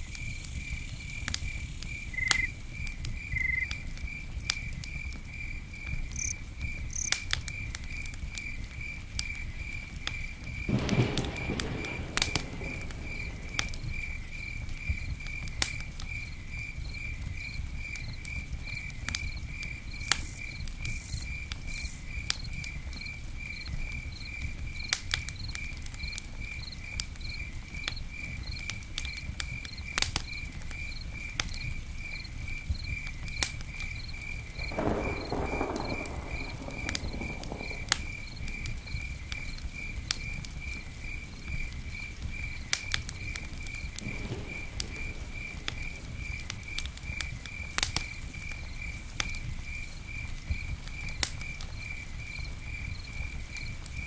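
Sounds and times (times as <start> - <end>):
campfire crackling and popping: 0.0 - 54.0
cricket chirping: 0.0 - 54.0.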